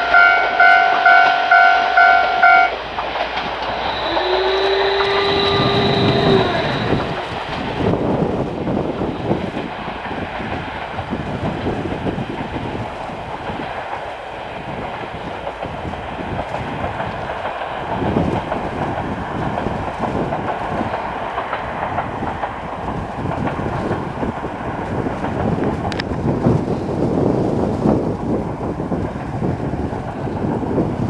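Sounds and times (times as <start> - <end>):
train wheels clattering over rail joints: 0.0 - 31.0.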